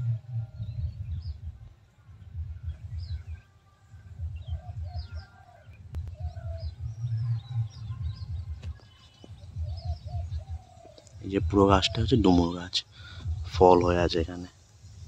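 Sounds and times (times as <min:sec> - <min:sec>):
birds chirping and calling: 0:00.0 - 0:15.0
wind buffeting microphone: 0:00.0 - 0:15.0.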